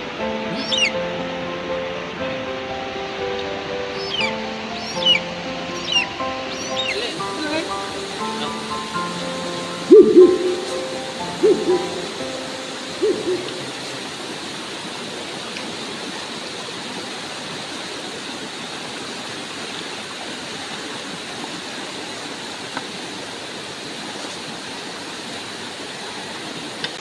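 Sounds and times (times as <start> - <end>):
river running over rocks: 0.0 - 27.0.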